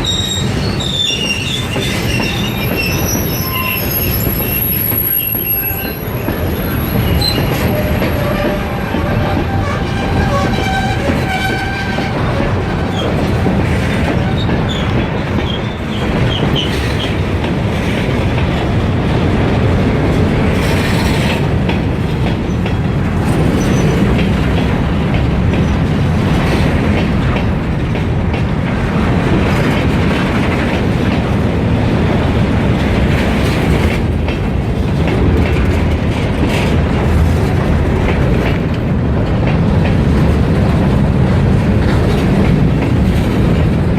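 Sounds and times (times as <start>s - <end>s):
freight train rumbling past: 0.0s - 43.9s
wheels clacking over rail joints: 0.0s - 43.9s.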